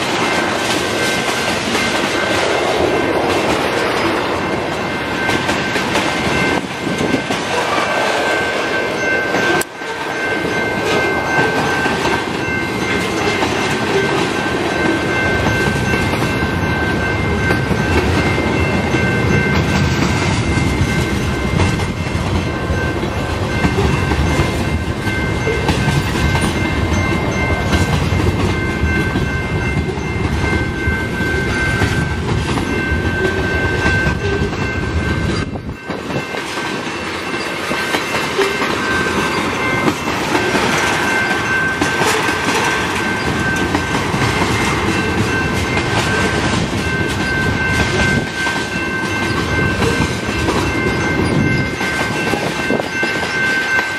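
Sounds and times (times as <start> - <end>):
crossing warning bell ringing: 0.0 - 53.9
freight train wheels clacking: 0.0 - 53.9.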